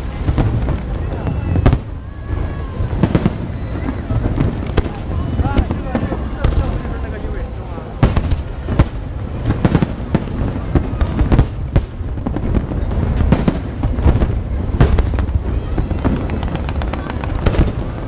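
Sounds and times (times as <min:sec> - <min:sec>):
fireworks bangs and crackles: 0:00.0 - 0:18.0
low rumble of explosions: 0:00.0 - 0:18.0.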